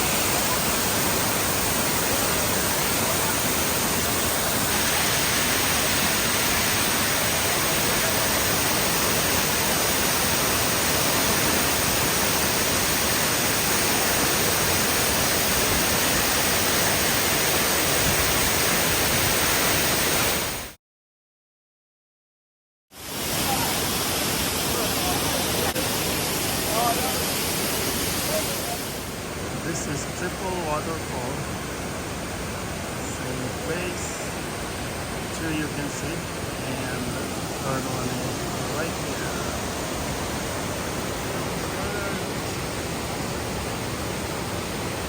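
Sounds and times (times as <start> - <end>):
waterfall rushing: 0.0 - 20.8, 23.0 - 45.0.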